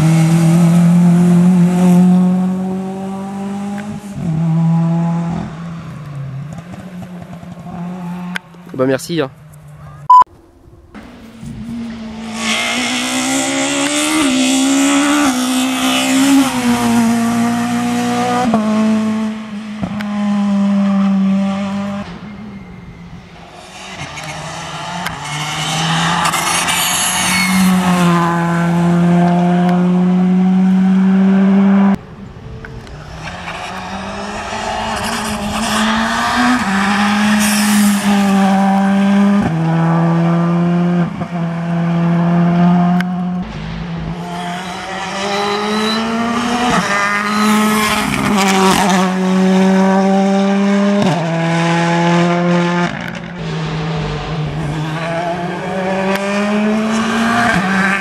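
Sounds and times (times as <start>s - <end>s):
rally cars passing at high revs: 0.0s - 9.9s, 10.9s - 58.0s.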